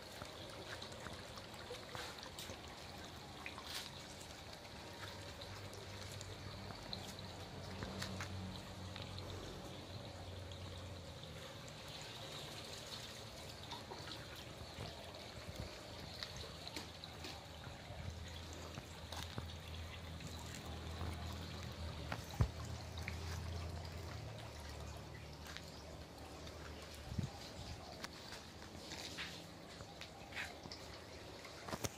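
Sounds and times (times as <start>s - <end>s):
water drips: 0.0s - 31.9s
water trickling into tank: 0.0s - 31.9s.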